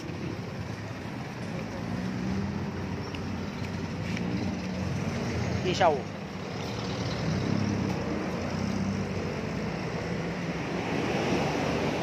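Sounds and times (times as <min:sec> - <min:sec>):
busy roadside din: 0:00.0 - 0:12.0
rumble of traffic: 0:00.0 - 0:12.0.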